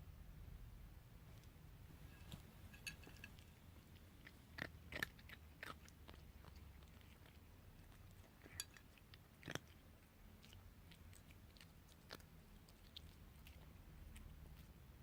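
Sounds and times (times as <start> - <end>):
cat crunching treats: 2.3 - 14.8.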